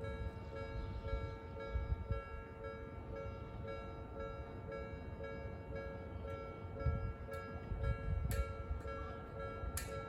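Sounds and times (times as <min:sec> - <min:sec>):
crossing warning bell dinging: 0:00.0 - 0:10.0.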